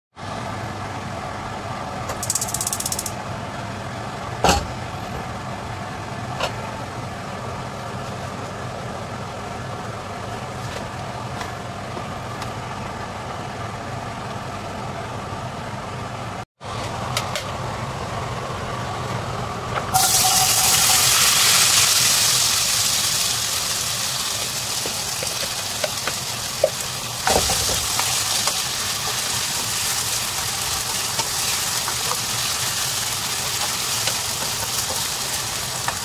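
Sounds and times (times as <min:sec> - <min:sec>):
steady mechanical hum: 0:00.2 - 0:36.0.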